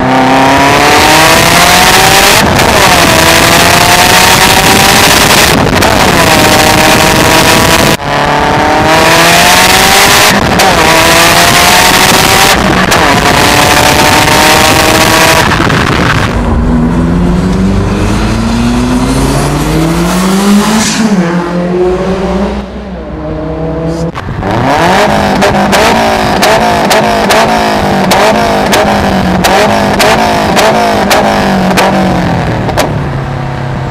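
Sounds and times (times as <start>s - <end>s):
car engine accelerating hard: 0.0s - 33.9s.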